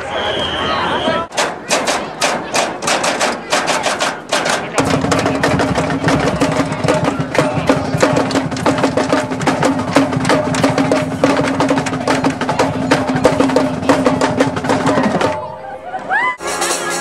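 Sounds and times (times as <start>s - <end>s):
rapid drumline strokes: 1.3s - 15.6s, 16.4s - 17.0s.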